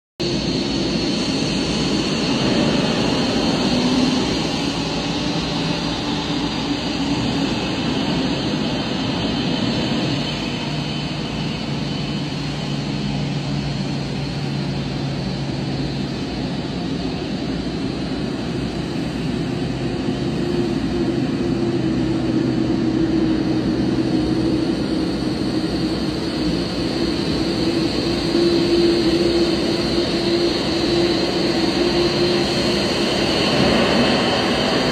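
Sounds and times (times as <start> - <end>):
jet engines whining: 0.2 - 34.9.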